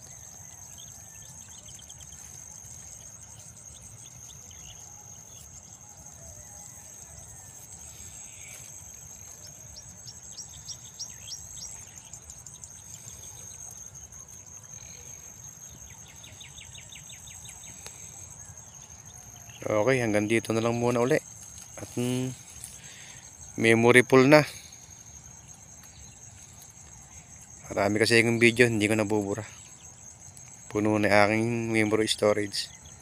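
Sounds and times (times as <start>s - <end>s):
field insects trilling: 0.0s - 33.0s.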